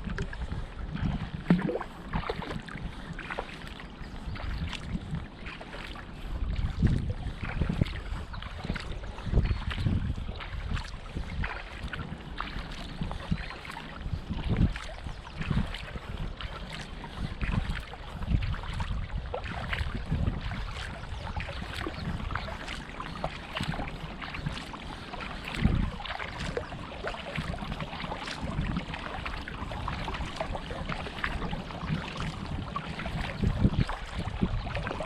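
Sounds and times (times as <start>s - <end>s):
paddle splashing water: 0.0s - 35.0s
wind on microphone: 0.0s - 35.0s.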